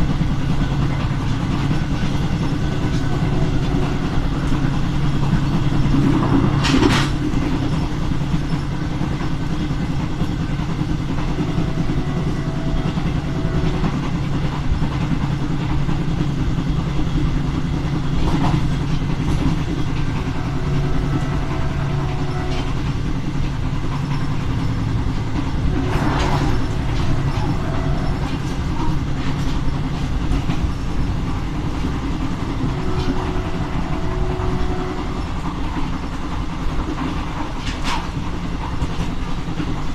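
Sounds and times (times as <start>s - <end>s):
clacks over rail joints: 0.0s - 39.9s
diesel engine hum: 0.0s - 39.9s
wheels rumbling on rails: 0.0s - 39.9s.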